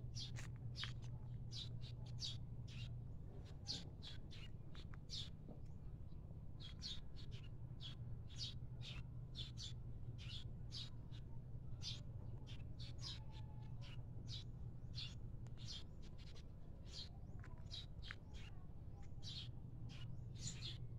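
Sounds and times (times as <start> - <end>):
birds chirping: 0.1 - 5.4, 6.1 - 20.9.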